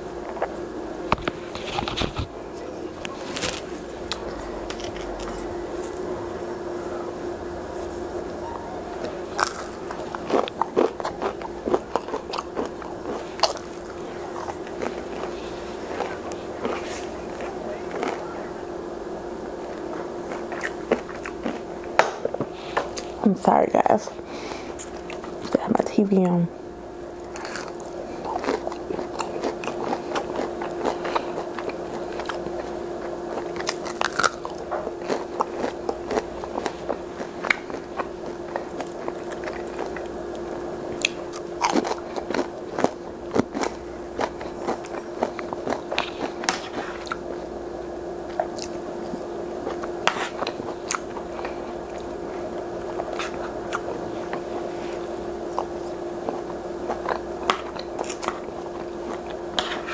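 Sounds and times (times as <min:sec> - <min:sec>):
low hum: 0:00.0 - 0:59.9
crunchy chewing: 0:00.2 - 0:08.3, 0:08.9 - 0:18.7, 0:19.4 - 0:23.2, 0:24.3 - 0:25.6, 0:27.1 - 0:47.6, 0:48.2 - 0:59.9.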